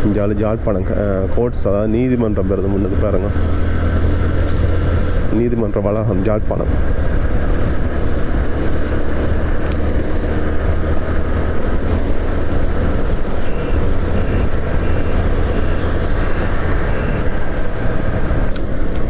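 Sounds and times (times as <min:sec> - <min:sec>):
motorcycle engine cruising: 0:00.0 - 0:19.0
wind rushing over microphone: 0:00.0 - 0:19.0.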